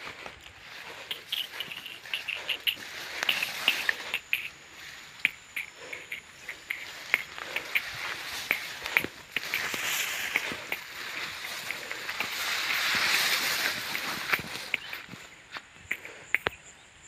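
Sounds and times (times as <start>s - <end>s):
grass rustling: 0.0s - 16.6s
crickets chirping: 0.0s - 17.0s
wind hiss: 0.0s - 17.0s
sharp clicks: 0.5s - 16.6s.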